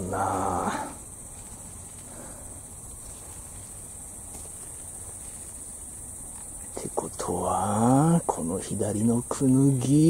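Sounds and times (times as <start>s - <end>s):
faint low background hiss: 0.0s - 10.0s
high-pitched insect trill: 0.0s - 10.0s.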